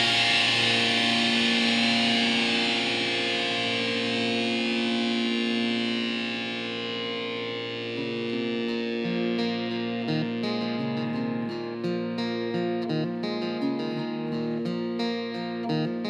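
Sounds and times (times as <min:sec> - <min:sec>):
distorted electric guitar chord: 0:00.0 - 0:16.0.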